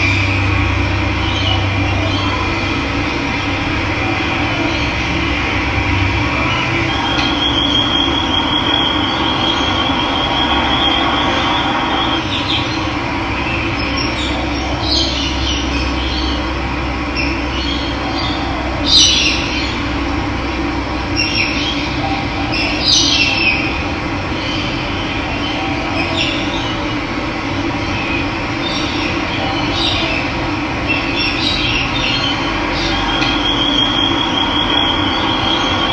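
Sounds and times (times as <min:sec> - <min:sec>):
wild birds calling: 0:00.0 - 0:35.9.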